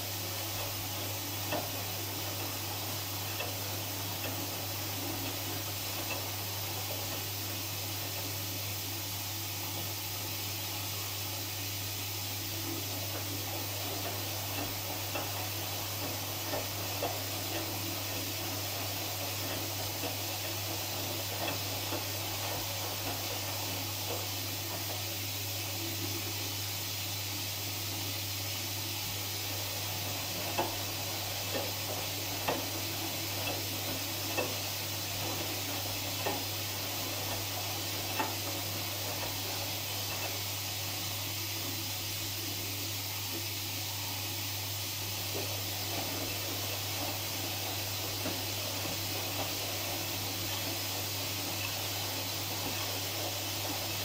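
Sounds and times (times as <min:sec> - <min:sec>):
washing machine wet swishing: 0:00.0 - 0:54.0.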